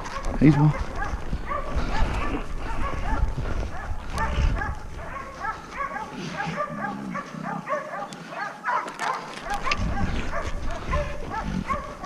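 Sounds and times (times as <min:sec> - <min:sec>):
dogs barking in high yaps: 0:00.0 - 0:12.0.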